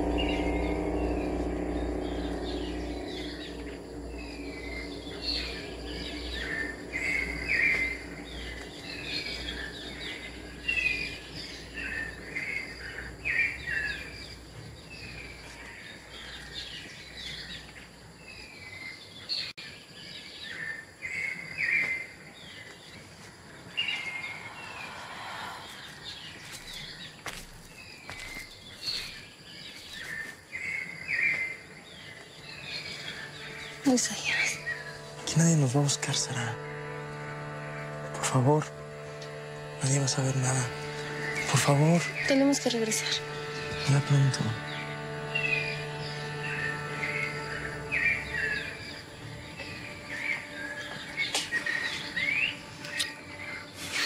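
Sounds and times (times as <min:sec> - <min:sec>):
background hiss: 0:00.0 - 0:19.4, 0:20.0 - 0:54.0
low drone: 0:00.0 - 0:29.0, 0:30.6 - 0:54.0
birds chirping: 0:00.0 - 0:54.0.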